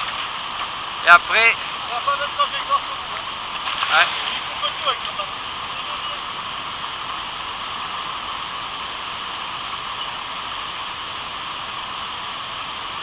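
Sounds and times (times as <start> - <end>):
river water rushing through rapids: 0.0 - 13.0.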